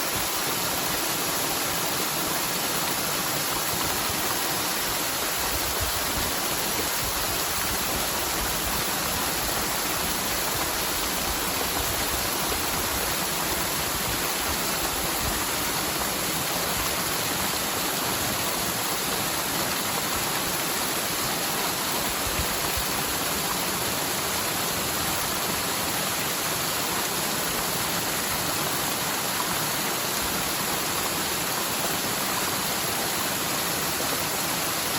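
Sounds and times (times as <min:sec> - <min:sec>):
mountain stream rushing: 0:00.0 - 0:34.9.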